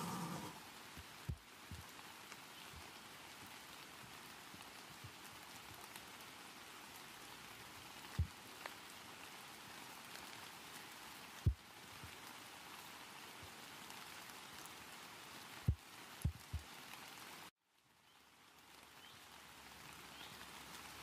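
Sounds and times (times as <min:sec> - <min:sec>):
steady hiss: 0:00.0 - 0:17.5.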